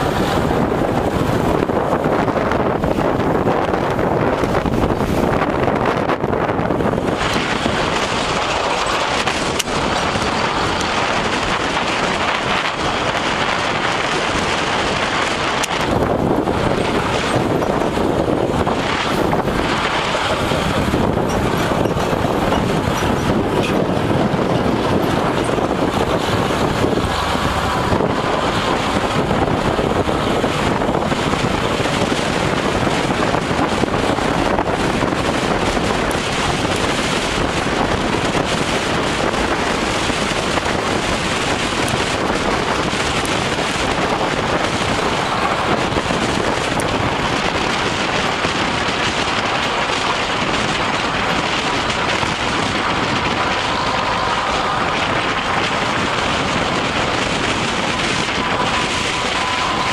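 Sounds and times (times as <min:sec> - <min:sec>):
tyre and road noise: 0:00.0 - 0:59.9
wind rushing over microphone: 0:00.0 - 0:59.9.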